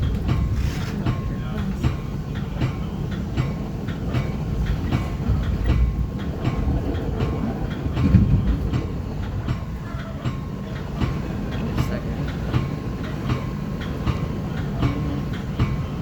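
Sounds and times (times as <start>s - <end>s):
train wheels rumbling on rails: 0.0s - 16.0s
wheels clicking over rail joints: 0.0s - 16.0s.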